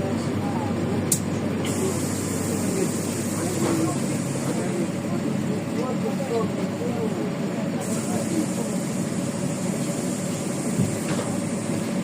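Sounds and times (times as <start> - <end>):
bus diesel engine hum: 0.0 - 12.0.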